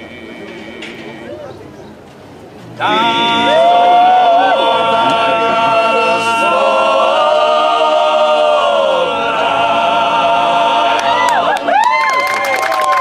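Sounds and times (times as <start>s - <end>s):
male choir singing a cappella: 0.0s - 1.4s, 2.7s - 11.8s.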